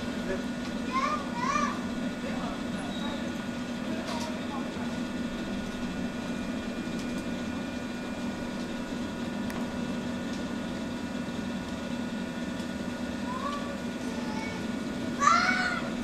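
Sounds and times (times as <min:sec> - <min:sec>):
electric train equipment hum: 0:00.0 - 0:16.0.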